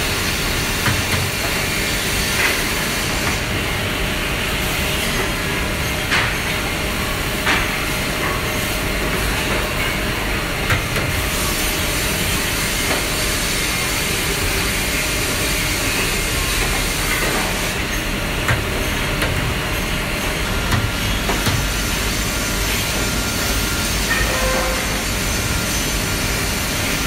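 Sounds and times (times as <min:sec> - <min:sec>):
saw line motors and conveyor: 0:00.0 - 0:27.0.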